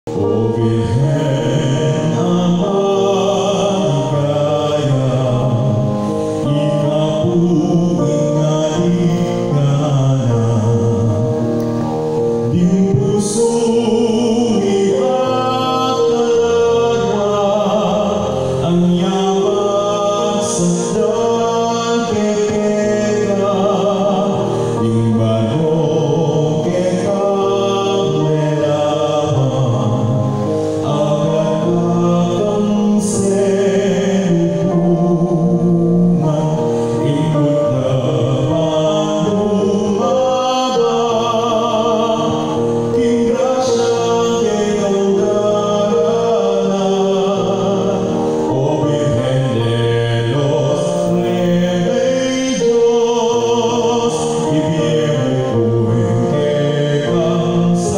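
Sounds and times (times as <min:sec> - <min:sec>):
hymn sung with accompaniment: 0:00.1 - 0:57.9.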